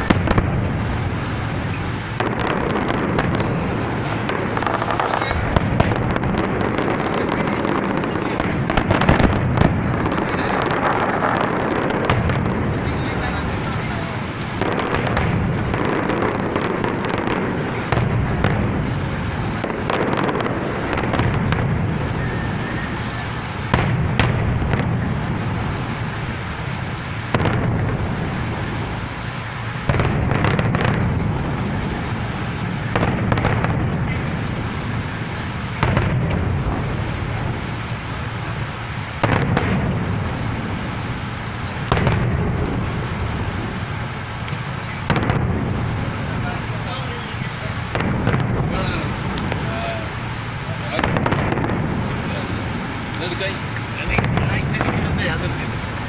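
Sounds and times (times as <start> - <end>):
firework bangs: 0.0 - 56.0
fireworks crackling and rumbling: 0.0 - 56.0.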